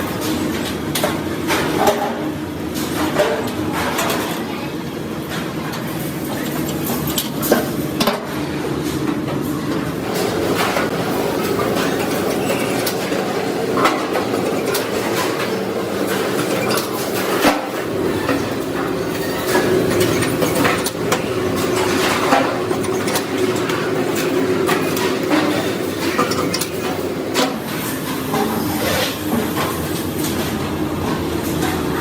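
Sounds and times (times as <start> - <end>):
factory machinery humming: 0.0 - 32.0.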